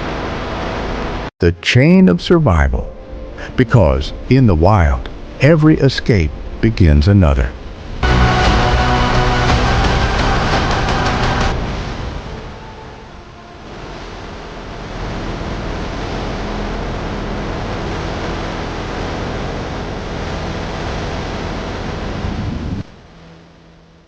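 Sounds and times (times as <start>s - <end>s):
steady rushing noise: 0.0s - 1.3s, 2.1s - 24.0s
faint low hum with tones: 0.0s - 24.0s.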